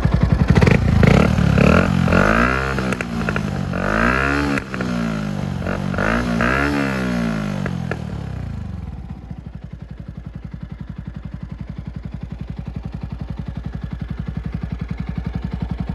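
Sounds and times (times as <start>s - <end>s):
motorcycle engine revving and idling: 0.0s - 15.9s.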